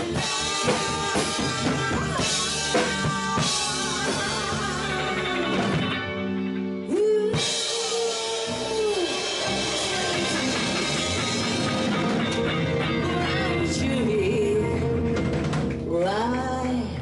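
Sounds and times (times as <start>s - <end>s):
woman singing: 0.0s - 6.0s, 6.9s - 11.6s, 12.8s - 15.0s, 15.9s - 17.0s
live rock band playing: 0.0s - 16.9s.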